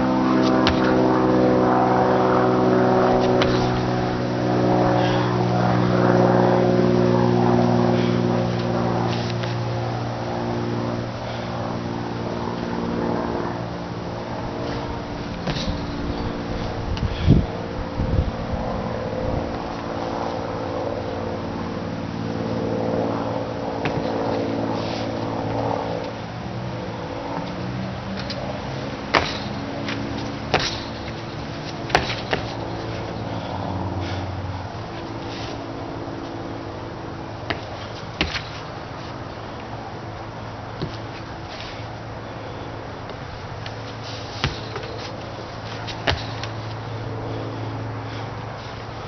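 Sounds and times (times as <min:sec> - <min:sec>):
motor running steadily: 0:00.0 - 0:49.0.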